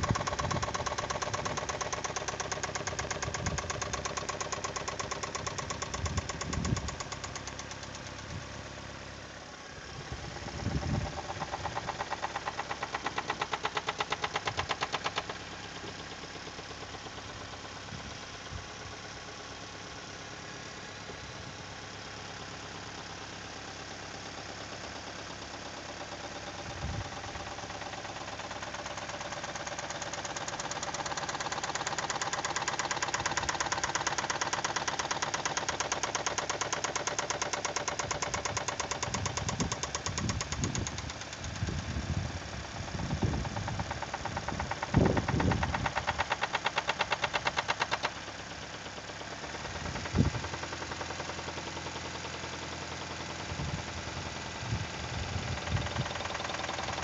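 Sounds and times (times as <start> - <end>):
fast rhythmic engine knock: 0.0 - 8.8, 9.6 - 57.0
petrol engine revving: 0.0 - 8.9, 9.8 - 18.2, 23.6 - 57.0.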